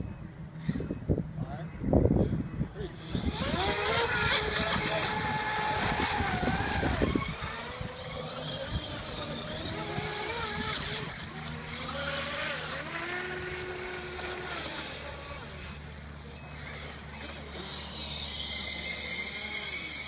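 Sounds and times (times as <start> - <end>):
electric rc boat motors whining: 0.6 - 1.0, 2.9 - 20.0.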